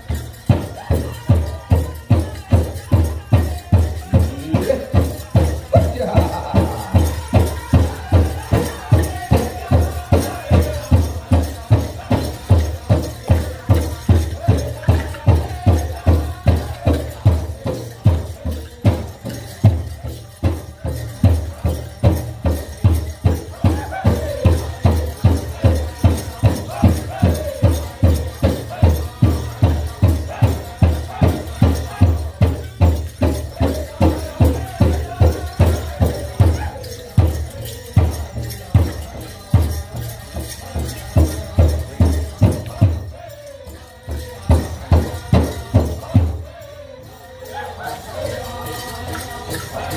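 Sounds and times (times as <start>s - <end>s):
dancers' bells shaking: 0.0s - 49.9s
group singing high voices: 0.0s - 49.9s.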